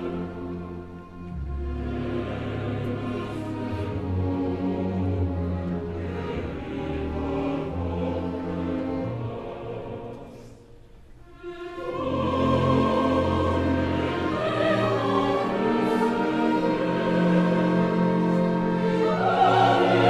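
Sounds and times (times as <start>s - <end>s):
orchestra and chorus slow music: 0.0s - 20.0s.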